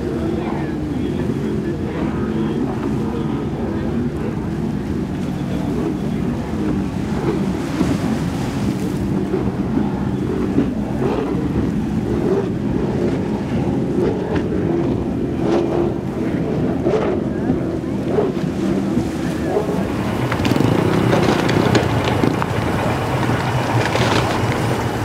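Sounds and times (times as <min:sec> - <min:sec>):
boat outboard engines droning: 0:00.0 - 0:25.0
wind buffeting microphone: 0:00.0 - 0:25.0.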